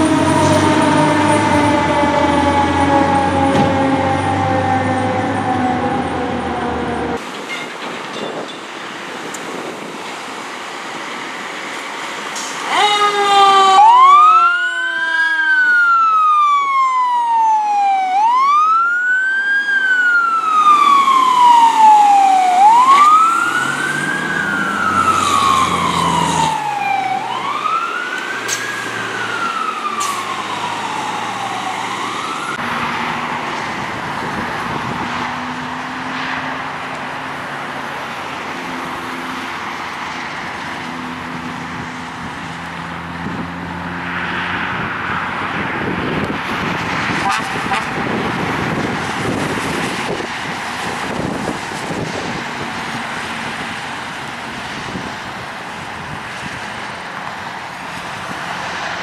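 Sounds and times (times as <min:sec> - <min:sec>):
fire engine siren wailing: 0:00.0 - 0:07.2, 0:12.4 - 0:59.0
road traffic noise: 0:00.0 - 0:59.0.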